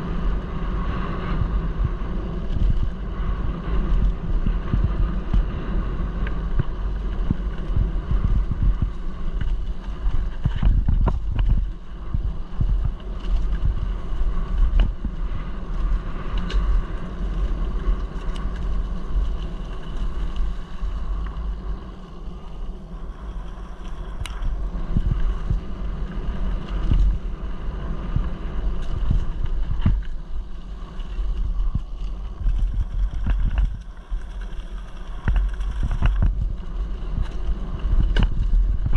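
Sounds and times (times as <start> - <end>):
bike rattling down gravel track: 0.0 - 38.9
wind on microphone: 0.0 - 38.9.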